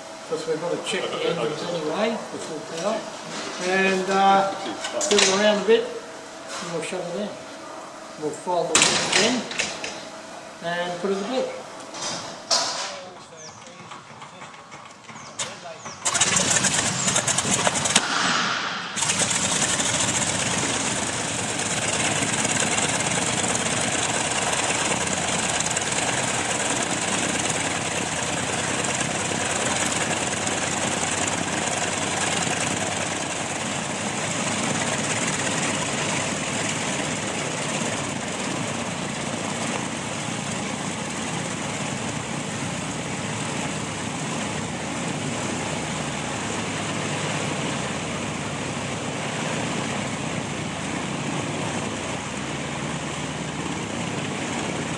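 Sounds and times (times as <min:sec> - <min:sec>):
piston aircraft engines droning: 0:00.0 - 0:54.9.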